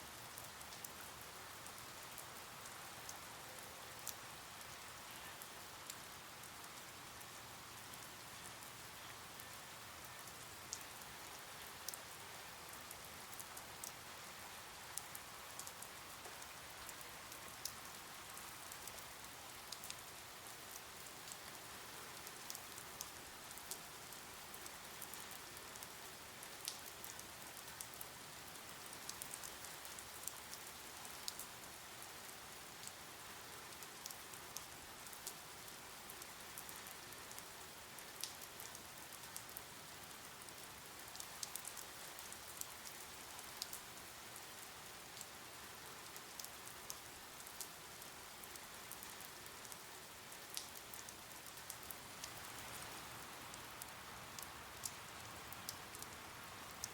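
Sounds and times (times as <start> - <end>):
steady rain hiss: 0.0 - 56.9
raindrops dripping and tapping: 0.1 - 56.9.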